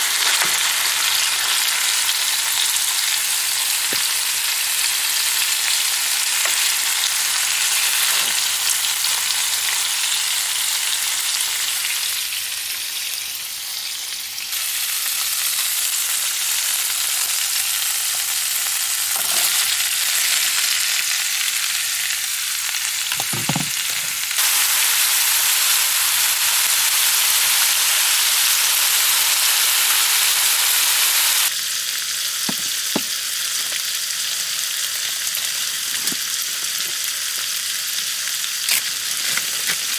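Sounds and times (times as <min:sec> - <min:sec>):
food sizzling in a skillet: 0:00.0 - 0:39.9.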